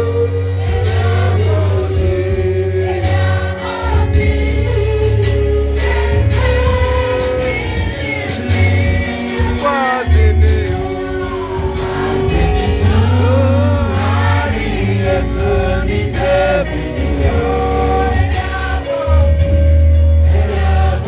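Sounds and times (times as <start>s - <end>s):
heavy bass line: 0.0s - 21.0s
voices singing worship song: 0.0s - 21.0s.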